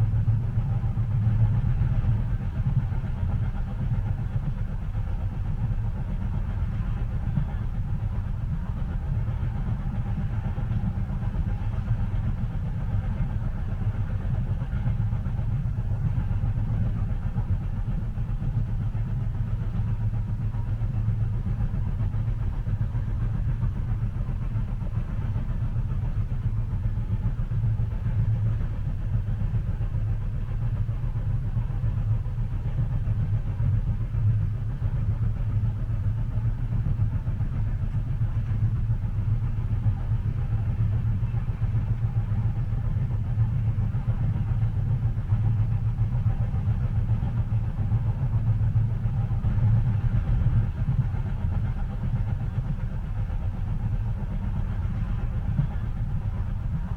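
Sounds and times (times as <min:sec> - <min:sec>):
train rumbling in motion: 0:00.0 - 0:56.9.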